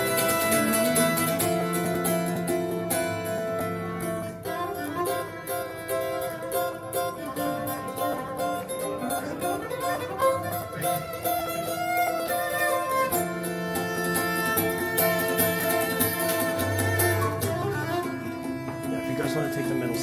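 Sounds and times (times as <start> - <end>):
bowed violin: 0.0 - 20.0
plucked string music: 0.0 - 20.0.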